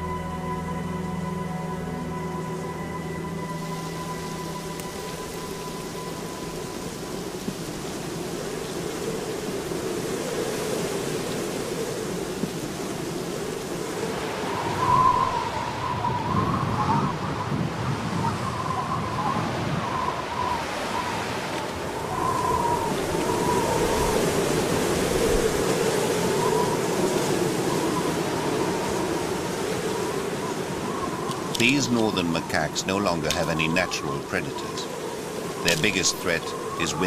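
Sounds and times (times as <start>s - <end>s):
wind blowing with faint whistle: 0.0s - 37.0s.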